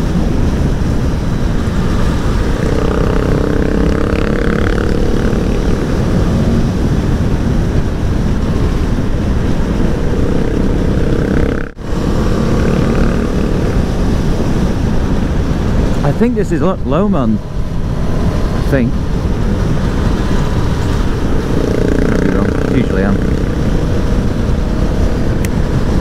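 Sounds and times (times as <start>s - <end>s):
motorcycle engine running: 0.0s - 26.0s
wind roar over microphone: 0.0s - 26.0s.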